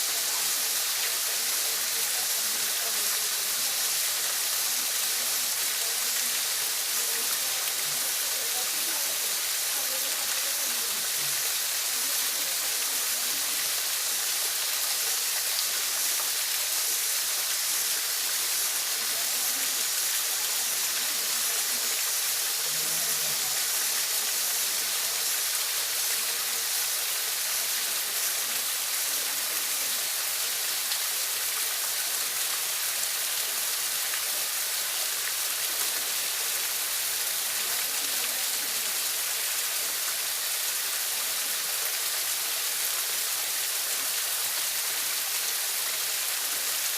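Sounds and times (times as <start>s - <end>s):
waterfall pouring: 0.0s - 46.9s.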